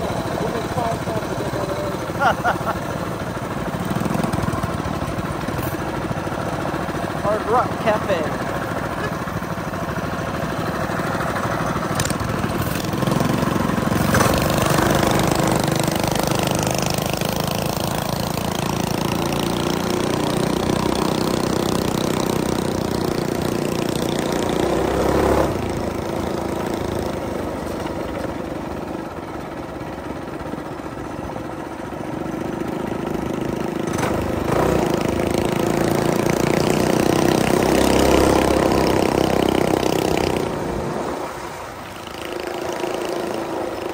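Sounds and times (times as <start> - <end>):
small motorbike engine running: 0.0 - 40.8, 41.7 - 43.9.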